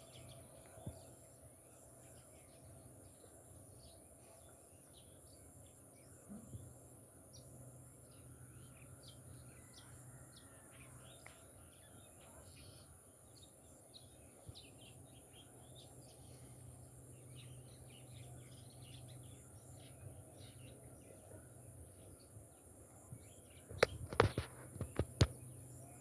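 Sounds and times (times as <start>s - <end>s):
low outdoor hum: 0.0s - 26.0s
small birds chirping: 0.0s - 26.0s.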